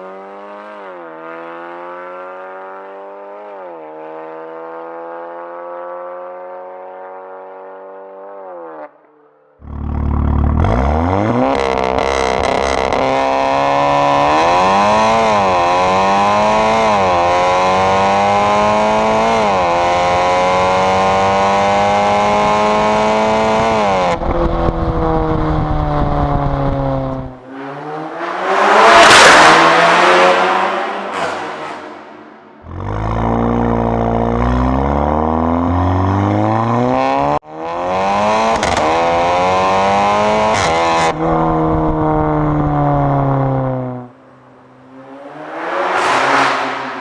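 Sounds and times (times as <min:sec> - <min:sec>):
car engine accelerating: 0:00.0 - 0:47.0.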